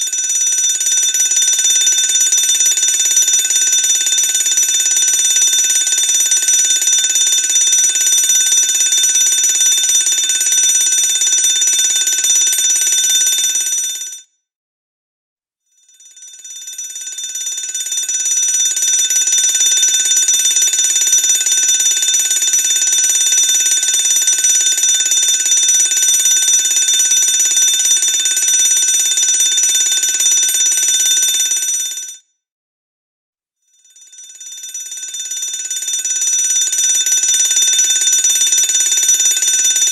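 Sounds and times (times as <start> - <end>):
fire alarm bell ringing: 0.0 - 14.2, 15.9 - 32.2, 33.9 - 39.9.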